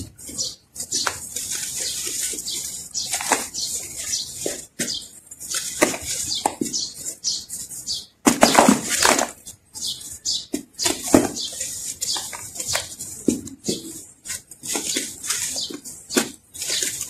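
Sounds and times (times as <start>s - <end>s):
gritty rustling: 0.0s - 17.0s.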